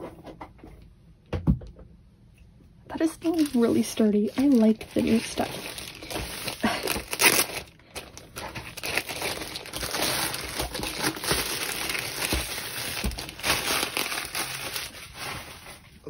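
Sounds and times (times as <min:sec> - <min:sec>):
plastic bag crinkling: 0:02.9 - 0:16.0.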